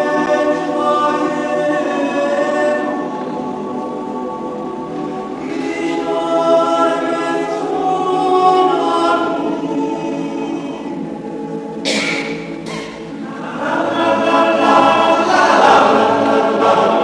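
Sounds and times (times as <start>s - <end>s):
male choir singing a cappella: 0.0s - 17.0s.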